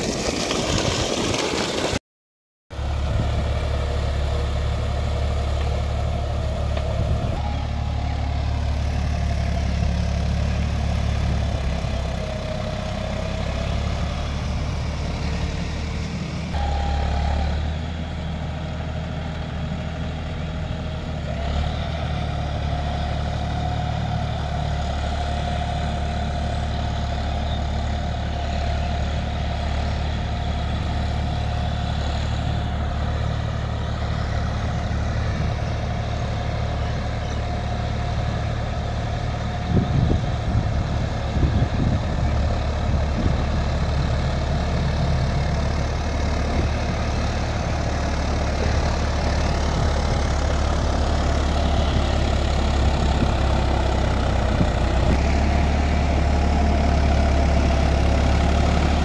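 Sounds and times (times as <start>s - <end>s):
tractor diesel engine running: 0.0s - 2.0s, 2.7s - 59.0s.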